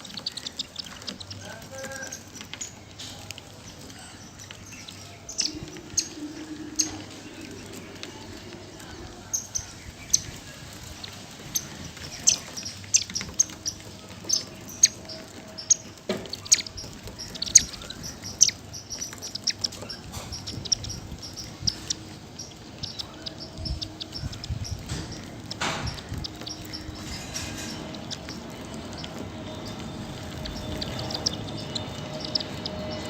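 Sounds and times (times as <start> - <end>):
sparrows chirping: 0.0 - 33.0.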